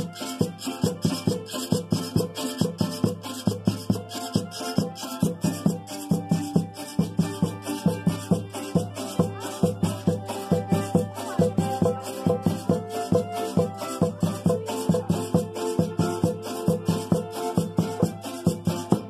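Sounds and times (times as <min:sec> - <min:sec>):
acoustic guitar strumming folk music: 0:00.0 - 0:19.0.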